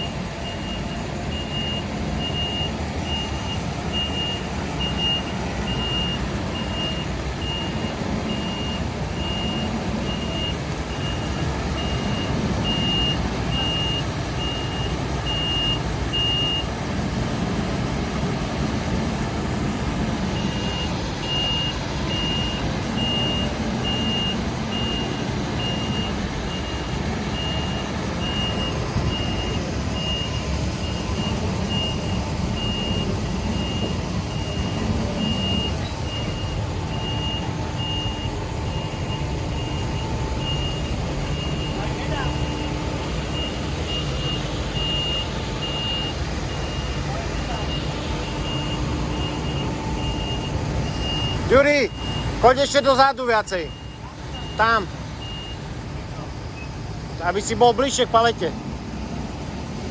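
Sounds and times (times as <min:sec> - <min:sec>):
diesel engine running: 0:00.0 - 0:59.9
reversing alarm beeping: 0:00.0 - 0:59.9.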